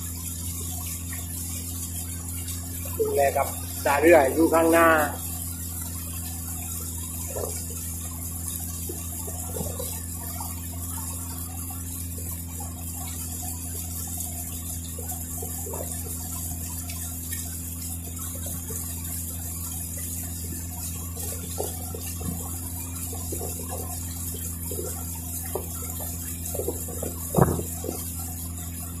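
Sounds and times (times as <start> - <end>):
boat engine droning: 0.0 - 29.0
water splashing along hull: 0.0 - 29.0.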